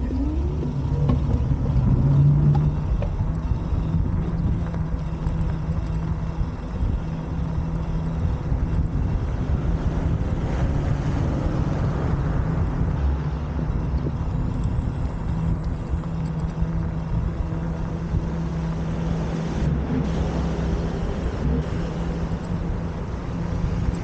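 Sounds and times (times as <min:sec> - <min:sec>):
moped engine humming: 0:00.0 - 0:24.0.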